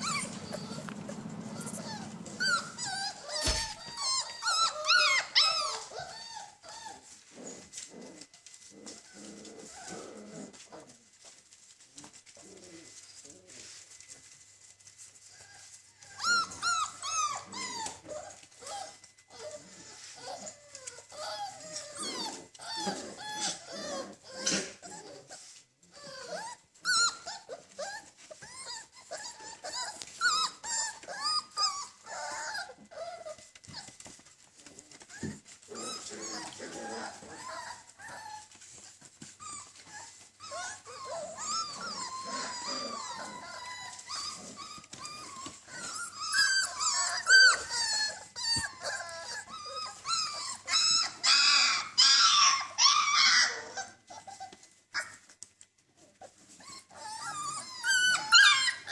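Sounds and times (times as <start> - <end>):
puppies whining yipping and growling: 0.0 - 58.9.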